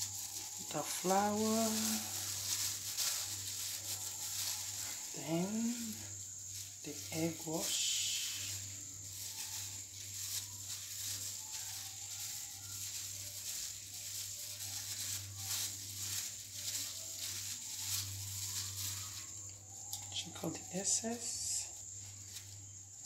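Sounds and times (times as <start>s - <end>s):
plastic glove crinkling: 0.0s - 23.0s.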